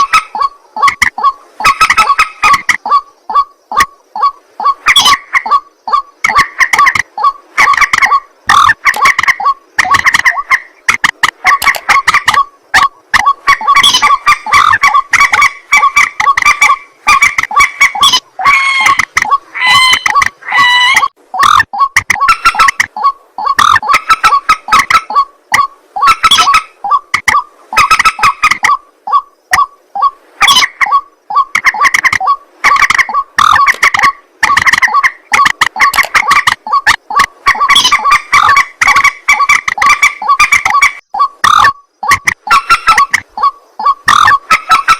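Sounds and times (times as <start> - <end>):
waterhens croaking calls: 0.0 - 44.9.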